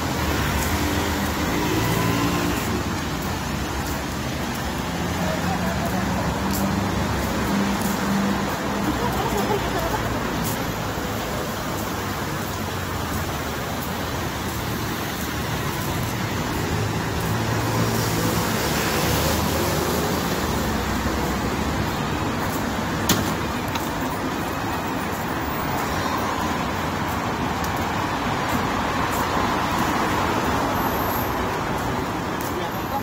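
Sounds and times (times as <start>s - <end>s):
passing cars: 0.0s - 33.0s.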